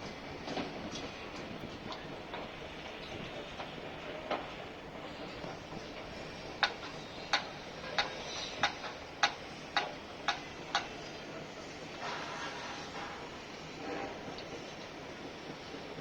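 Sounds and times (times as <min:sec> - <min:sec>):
construction site background noise: 0:00.0 - 0:16.0.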